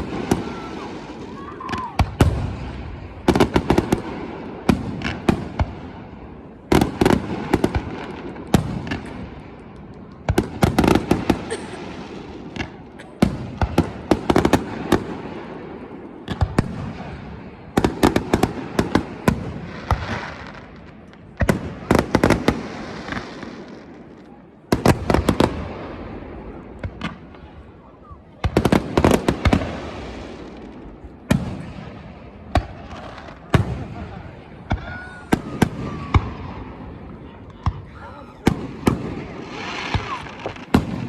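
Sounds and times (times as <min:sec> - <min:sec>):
fireworks booming and crackling: 0:00.0 - 0:41.0.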